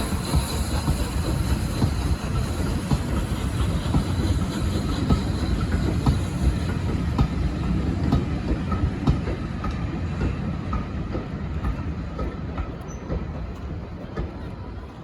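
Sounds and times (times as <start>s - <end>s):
train rumble: 0.0s - 15.0s
train wheels clicking on rail joints: 0.0s - 15.0s.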